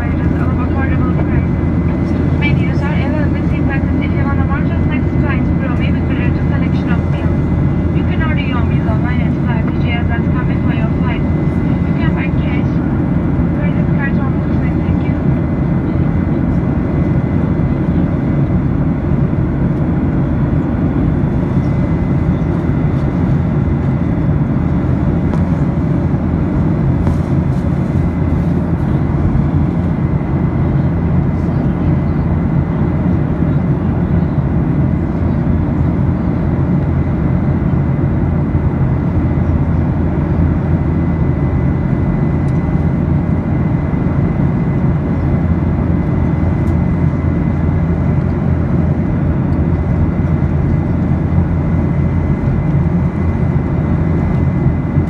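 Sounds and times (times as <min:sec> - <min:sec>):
airliner cabin drone: 0:00.0 - 0:55.0.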